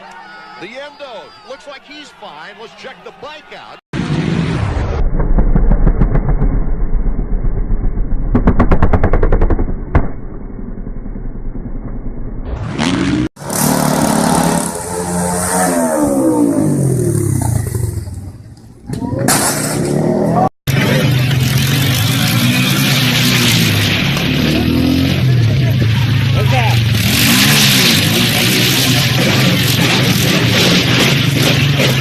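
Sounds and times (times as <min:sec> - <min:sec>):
motorcycle engine revving: 0:04.0 - 0:32.0.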